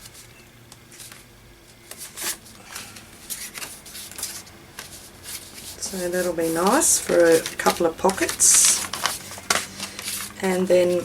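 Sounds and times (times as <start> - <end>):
paper rustling and scraping: 0.0 - 11.0.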